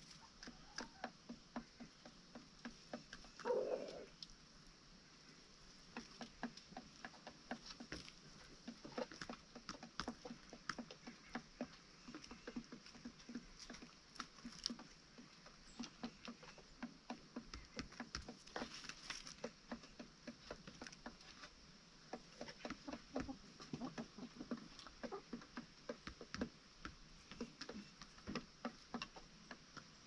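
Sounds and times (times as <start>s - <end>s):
chickens pecking and scratching: 0.0s - 30.0s.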